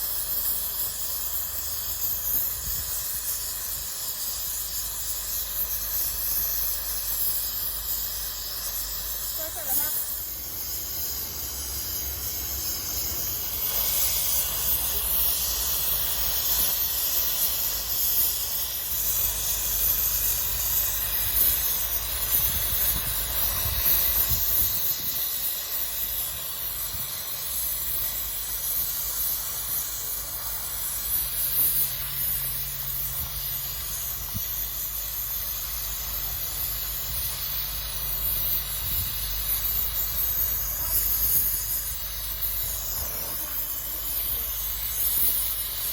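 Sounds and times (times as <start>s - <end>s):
welding torch flame hissing: 0.0s - 45.9s.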